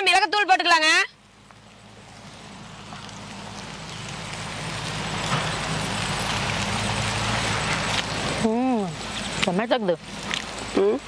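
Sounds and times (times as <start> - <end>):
noodles sizzling on a griddle: 0.1 - 11.0.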